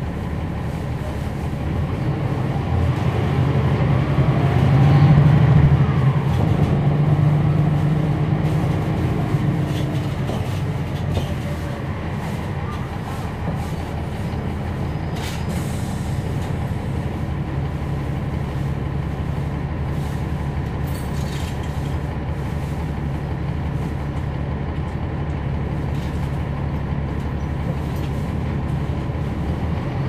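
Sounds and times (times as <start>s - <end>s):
bus diesel engine running: 0.0s - 30.0s.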